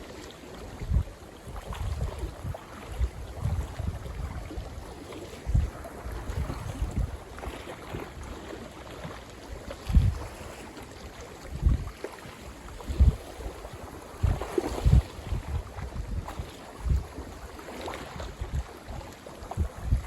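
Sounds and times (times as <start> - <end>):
waves on a lake: 0.0 - 20.0
wind buffeting microphone: 0.5 - 20.0.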